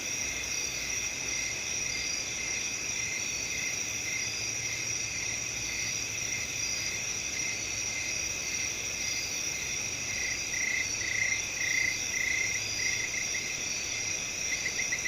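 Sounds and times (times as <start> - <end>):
crickets and insects chirring: 0.0 - 15.0.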